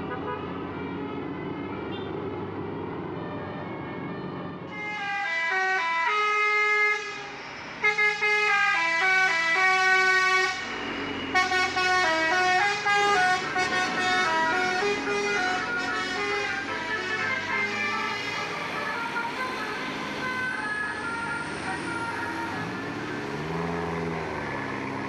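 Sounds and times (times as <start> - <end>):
bus horn playing melody: 0.0 - 0.9, 1.8 - 2.2, 4.0 - 24.3.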